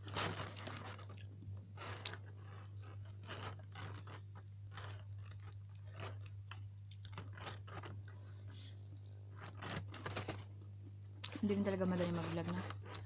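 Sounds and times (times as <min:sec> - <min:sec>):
chewing crispy fried chicken: 0:00.0 - 0:13.0
low electrical hum: 0:00.0 - 0:13.0.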